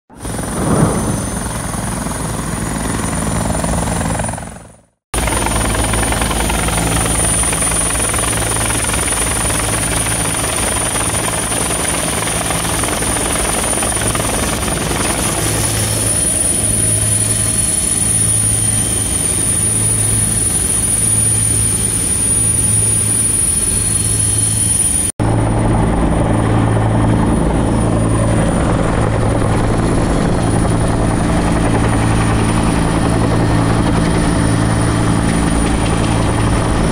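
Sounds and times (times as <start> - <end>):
helicopter rotor drone: 0.1 - 36.9
helicopter turbine whine: 0.1 - 36.9.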